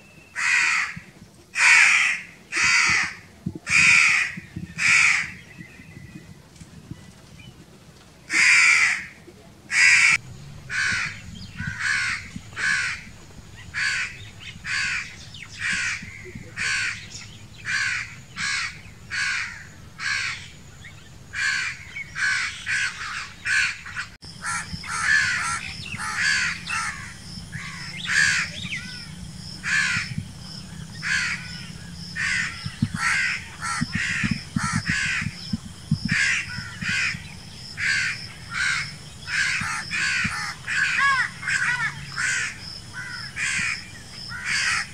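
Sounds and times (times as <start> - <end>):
crows cawing: 0.4 - 5.4, 8.3 - 20.5, 21.3 - 30.2, 31.0 - 35.5, 36.1 - 44.9.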